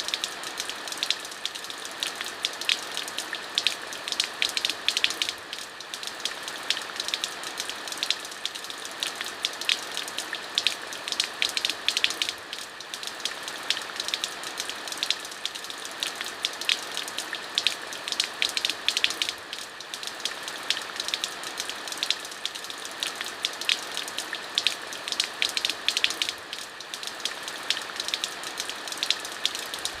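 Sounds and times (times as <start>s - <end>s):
rain drops pattering: 0.0s - 30.0s
rain hiss: 0.0s - 30.0s.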